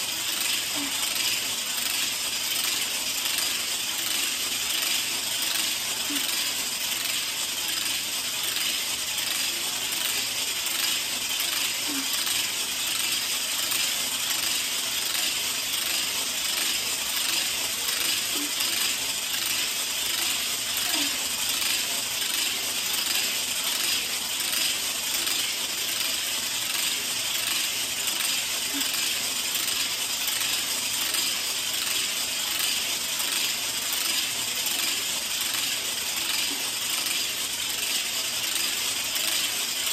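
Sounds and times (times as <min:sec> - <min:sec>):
hula hoop rattling clatter: 0:00.0 - 0:39.9.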